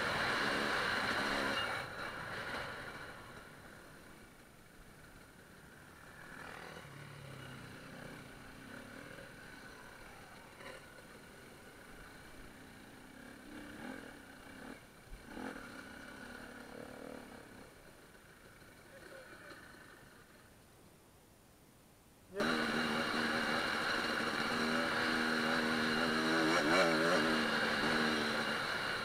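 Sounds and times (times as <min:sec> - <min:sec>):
faint motorcycle engine running: 0:00.0 - 0:20.9, 0:22.3 - 0:29.0.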